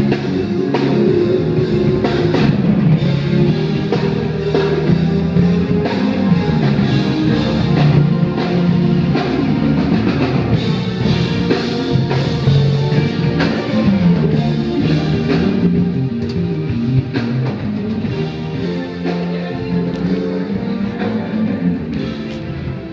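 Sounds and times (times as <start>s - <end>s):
drum kit beat: 0.0s - 22.9s
guitar: 0.0s - 22.9s
rock music: 0.0s - 22.9s.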